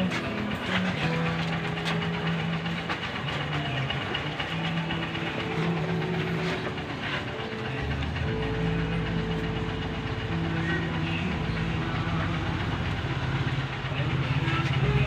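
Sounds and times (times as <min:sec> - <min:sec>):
welding machine hum: 0:00.0 - 0:15.0.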